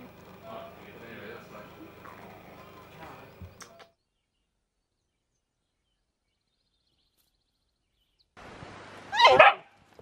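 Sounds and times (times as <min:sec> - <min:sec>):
distant birdsong chirps and trill: 0:00.0 - 0:08.4.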